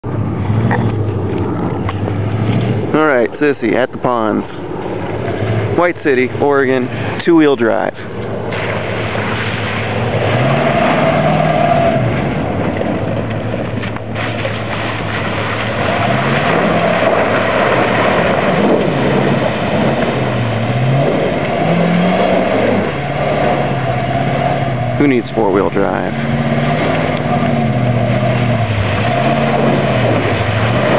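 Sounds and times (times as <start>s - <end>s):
truck engine revving: 0.0s - 30.9s.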